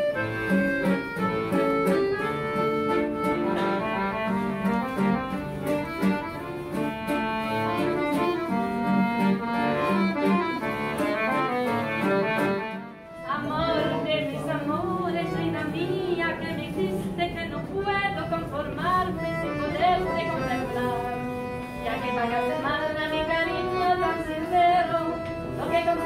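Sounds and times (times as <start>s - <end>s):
plucked classical guitar: 0.0s - 21.1s
button accordion melody: 0.0s - 26.0s.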